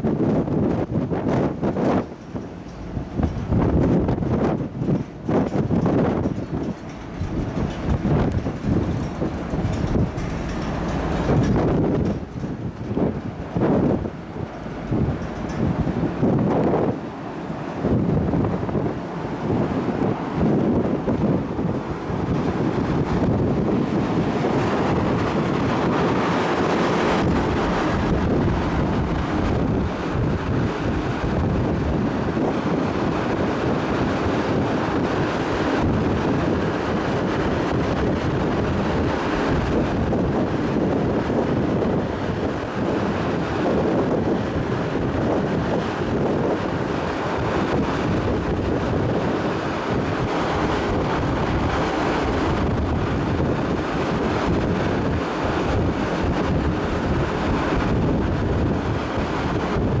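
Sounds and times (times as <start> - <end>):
wind buffeting microphone: 0.0 - 60.0.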